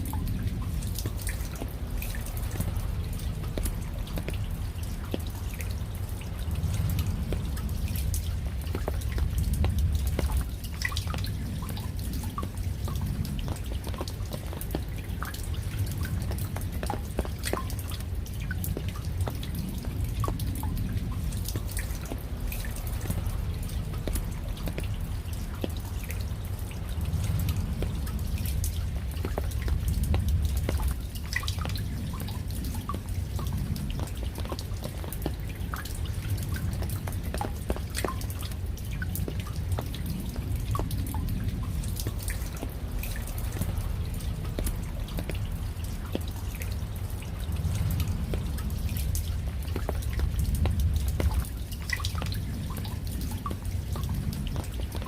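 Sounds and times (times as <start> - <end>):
raindrops dripping: 0.0 - 55.0
low rumble: 0.1 - 55.0.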